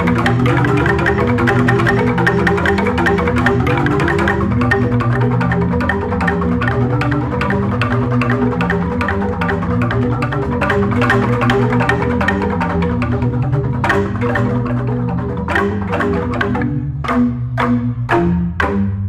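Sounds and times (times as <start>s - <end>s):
bamboo gamelan playing: 0.0s - 19.0s
deep sustained bass tones: 0.0s - 19.0s.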